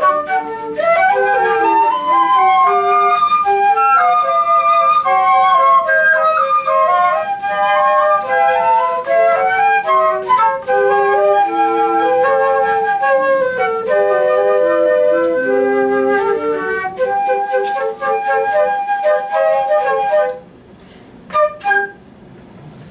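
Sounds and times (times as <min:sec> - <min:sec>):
flutes playing together: 0:00.0 - 0:20.6, 0:21.3 - 0:22.2.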